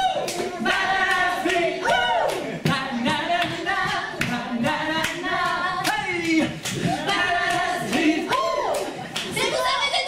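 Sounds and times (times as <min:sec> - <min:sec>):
hand claps: 0:00.2 - 0:09.3
group singing a cappella: 0:00.3 - 0:09.7.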